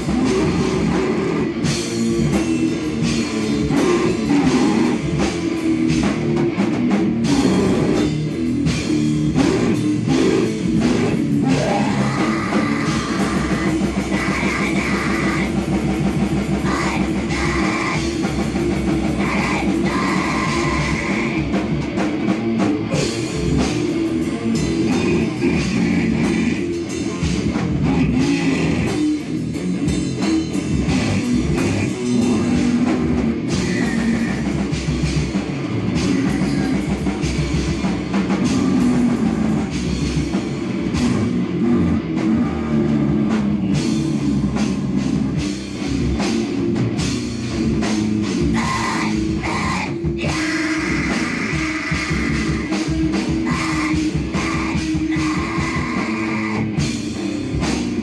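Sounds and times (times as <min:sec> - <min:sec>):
distorted electric guitar: 0:00.0 - 0:58.0
drum kit: 0:00.0 - 0:58.0.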